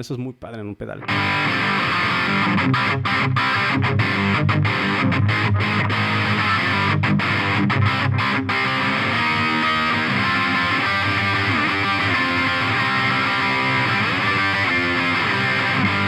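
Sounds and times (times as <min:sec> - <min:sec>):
distorted electric guitar: 0:01.0 - 0:16.0.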